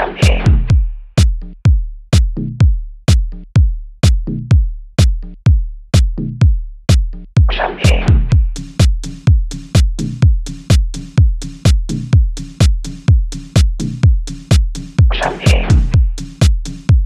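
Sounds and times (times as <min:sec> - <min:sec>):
drum machine kick drum: 0:00.0 - 0:17.0
pitched bass stabs: 0:00.0 - 0:17.0.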